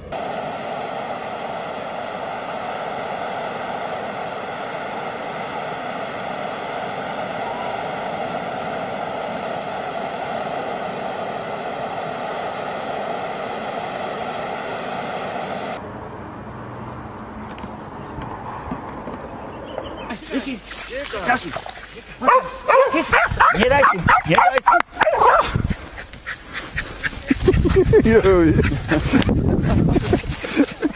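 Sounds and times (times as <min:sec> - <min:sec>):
steady mechanical drone: 0:00.0 - 0:30.9.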